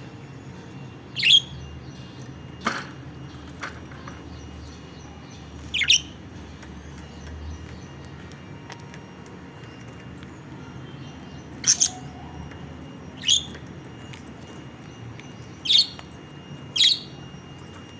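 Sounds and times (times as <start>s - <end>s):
lovebirds chirping: 0.0s - 9.0s, 9.6s - 17.9s.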